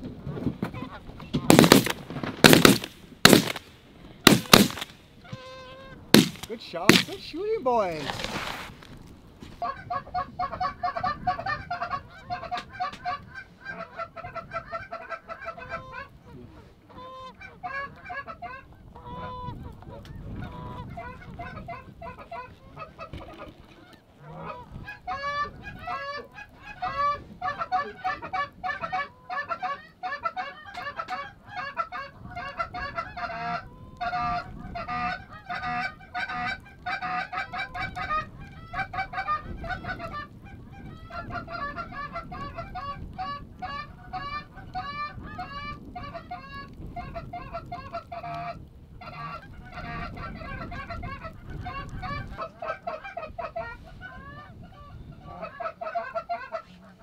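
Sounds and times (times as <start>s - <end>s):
geese honking: 4.3s - 7.4s, 9.6s - 57.0s.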